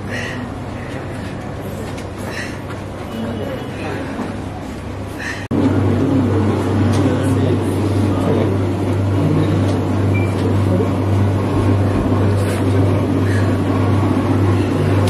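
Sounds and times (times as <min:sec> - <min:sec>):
faint voices: 0:00.0 - 0:15.0
steady low hum: 0:00.0 - 0:15.0.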